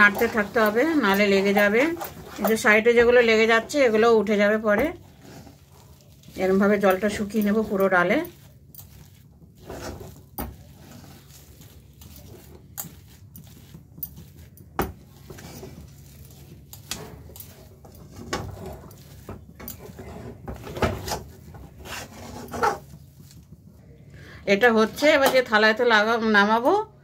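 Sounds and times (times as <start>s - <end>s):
spatula scraping a pan: 0.0s - 23.5s.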